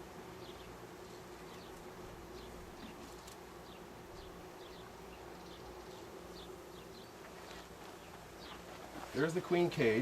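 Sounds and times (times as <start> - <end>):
honeybees buzzing: 0.0 - 10.0.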